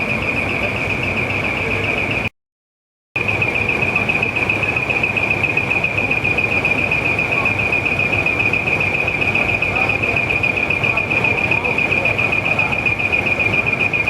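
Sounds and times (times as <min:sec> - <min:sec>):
rapidly pulsing beep: 0:00.0 - 0:02.3, 0:03.2 - 0:14.0
truck engines rumbling: 0:00.0 - 0:02.3, 0:03.2 - 0:14.0.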